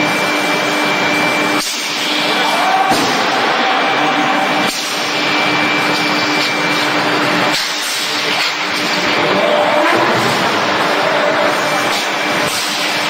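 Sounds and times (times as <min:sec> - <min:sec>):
machinery hiss and hum: 0:00.0 - 0:13.0.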